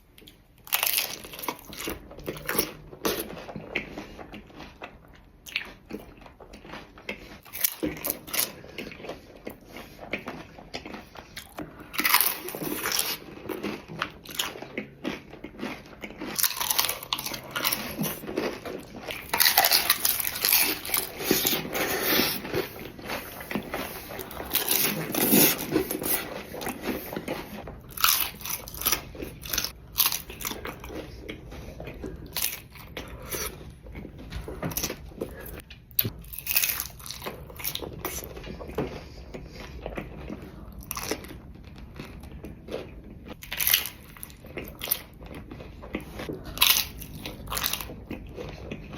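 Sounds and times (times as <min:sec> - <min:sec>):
person chewing crunchy chips: 0:00.0 - 0:48.9.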